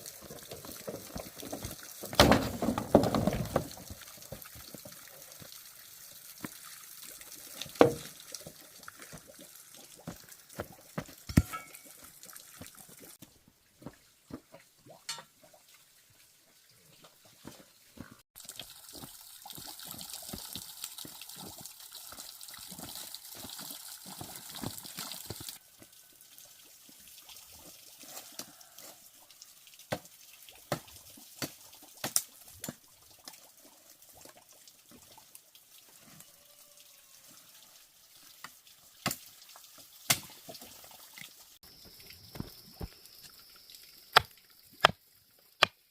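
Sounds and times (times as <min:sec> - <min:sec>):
water running: 0:00.0 - 0:13.2, 0:13.8 - 0:45.5.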